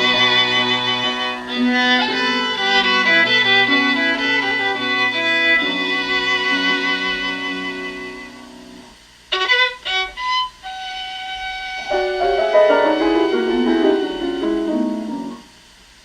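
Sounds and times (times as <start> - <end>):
violin music on loudspeakers: 0.0 - 8.4, 9.3 - 15.3.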